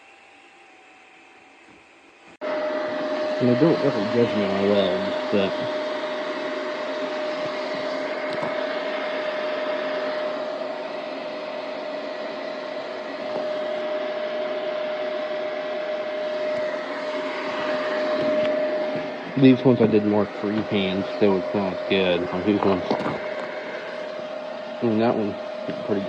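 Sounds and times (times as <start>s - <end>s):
mid-pitched hum: 0.0s - 26.0s
steady mechanical whir: 0.0s - 26.0s.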